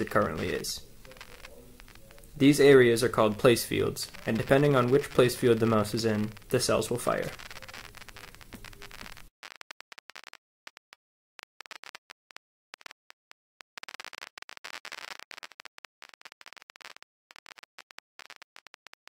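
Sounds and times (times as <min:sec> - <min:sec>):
crackling static and clicks: 0:00.0 - 0:19.0.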